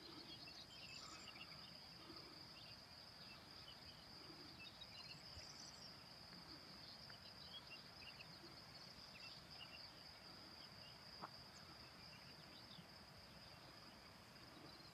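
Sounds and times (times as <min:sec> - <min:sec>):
crickets trilling: 0:00.0 - 0:14.9.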